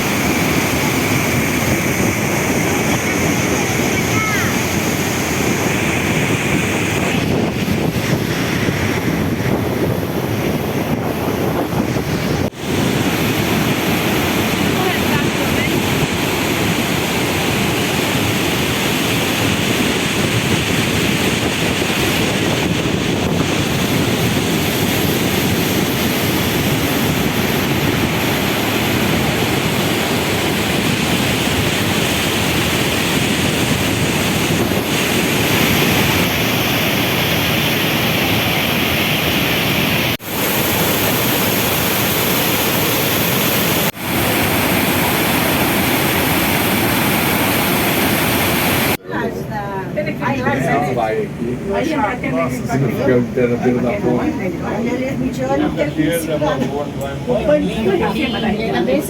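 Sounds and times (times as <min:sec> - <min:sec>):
waterfall roaring: 0:00.0 - 0:49.0, 0:50.0 - 0:59.0.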